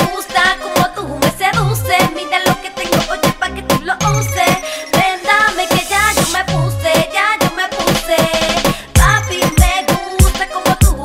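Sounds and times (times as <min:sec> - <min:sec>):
latin music with kick drum: 0:00.0 - 0:11.0.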